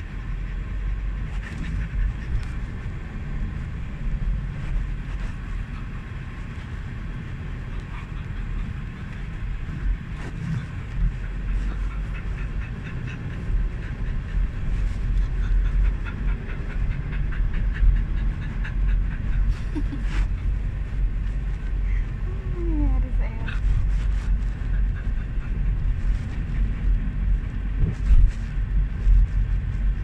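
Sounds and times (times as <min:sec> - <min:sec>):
car cabin road rumble: 0:00.0 - 0:30.0
dog panting: 0:00.0 - 0:30.0.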